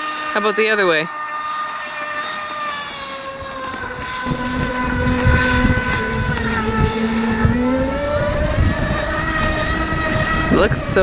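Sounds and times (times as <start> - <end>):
electric motor high whine: 0.0 - 11.0
water rushing and slapping hull: 0.0 - 11.0.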